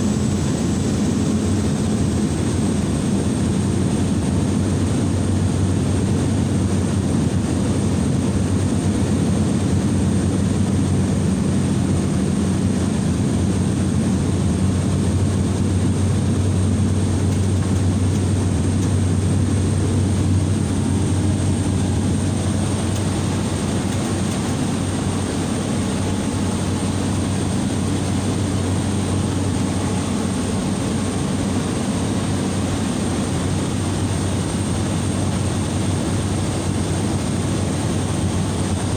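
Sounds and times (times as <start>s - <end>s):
turboprop engine drone: 0.0s - 38.9s.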